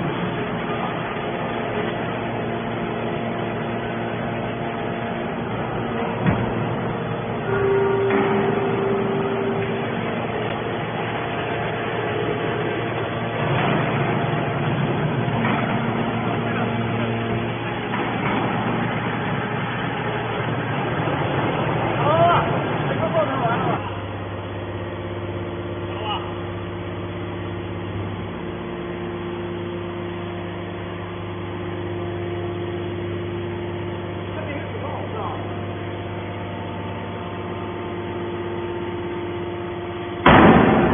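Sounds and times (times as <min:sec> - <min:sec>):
baler motor and pump whine: 0:00.0 - 0:40.9.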